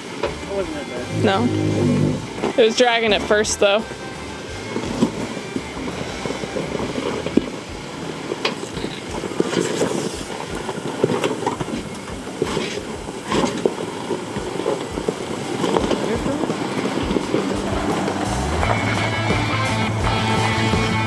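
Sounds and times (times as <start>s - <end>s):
off-road vehicle rumble: 0.2s - 21.0s.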